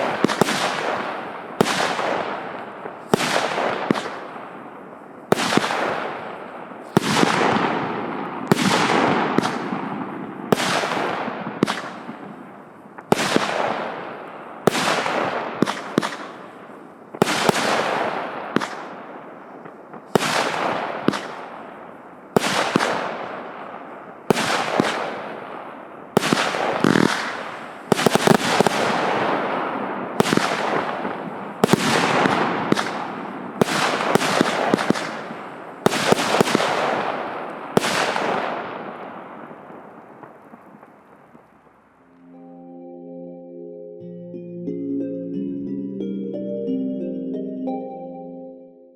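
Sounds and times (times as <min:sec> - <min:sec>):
fireworks bangs: 0:00.0 - 0:42.5
fireworks crackle: 0:00.0 - 0:42.5.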